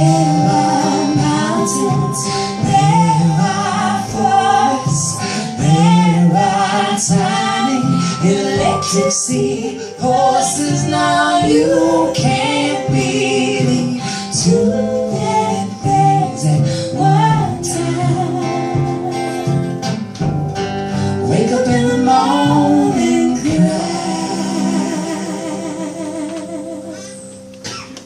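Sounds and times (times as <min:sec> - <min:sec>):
voices singing together: 0:00.0 - 0:19.2, 0:21.2 - 0:27.2
guitar: 0:00.0 - 0:28.0.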